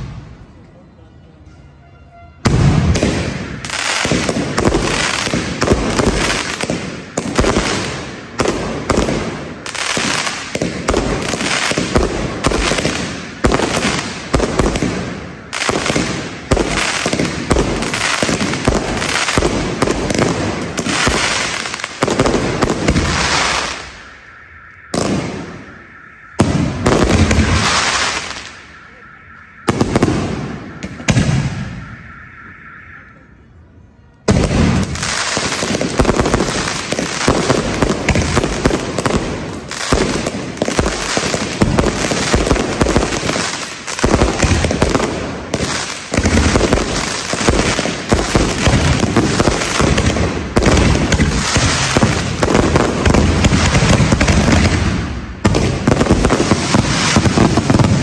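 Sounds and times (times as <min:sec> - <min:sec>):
fireworks bangs and crackling: 0:00.0 - 0:00.5, 0:02.4 - 0:32.8, 0:34.2 - 0:58.0.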